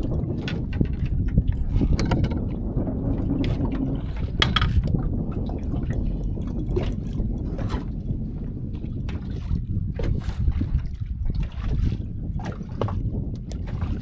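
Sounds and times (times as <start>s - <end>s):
waves lapping against boat: 0.0s - 14.0s
wind rumbling on microphone: 0.0s - 14.0s.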